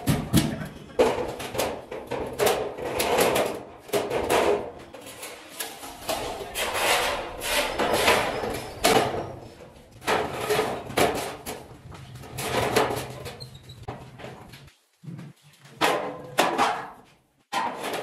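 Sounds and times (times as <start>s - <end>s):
metal frames clanking and scraping: 0.0s - 14.7s.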